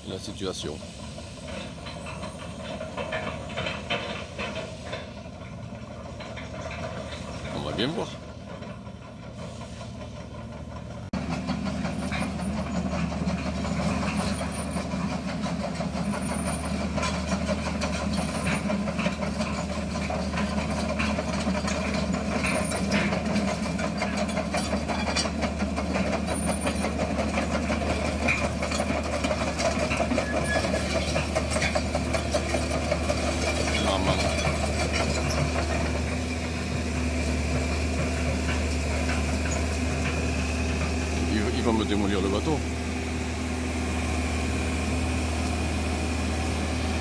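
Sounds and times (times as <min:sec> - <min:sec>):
track squeaks: 0:00.0 - 0:05.2, 0:11.3 - 0:47.0
excavator diesel engine: 0:00.0 - 0:47.0
track clanks: 0:00.0 - 0:47.0.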